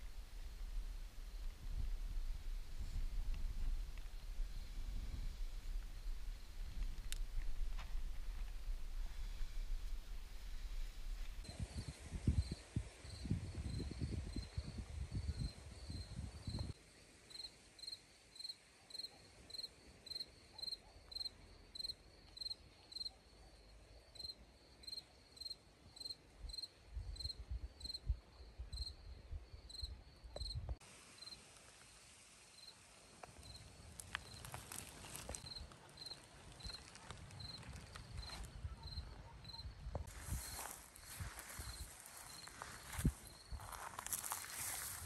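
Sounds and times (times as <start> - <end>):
cricket chirping: 0.0 - 45.0.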